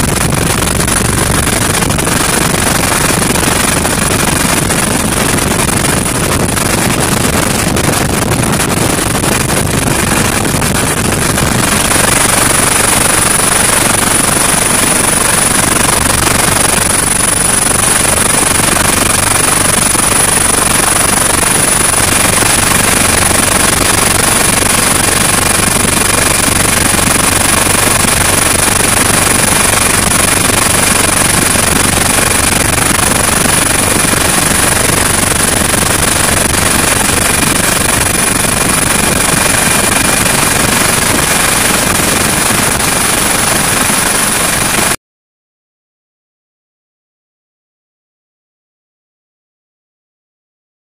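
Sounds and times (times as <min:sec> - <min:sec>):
helicopter rotor and turbine: 0:00.0 - 0:45.0.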